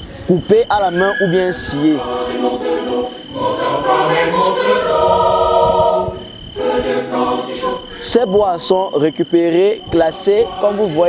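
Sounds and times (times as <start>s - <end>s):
group singing unaccompanied: 0.3s - 11.0s.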